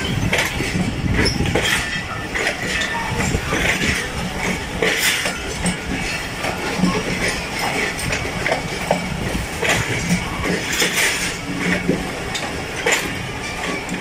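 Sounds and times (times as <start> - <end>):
passenger train rumbling: 0.0 - 14.0
rattles and clinks: 0.0 - 14.0.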